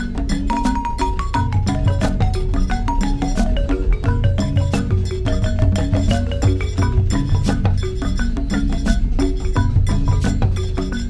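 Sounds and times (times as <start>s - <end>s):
struck mallet notes: 0.0s - 11.0s
wood block percussion: 0.0s - 11.0s.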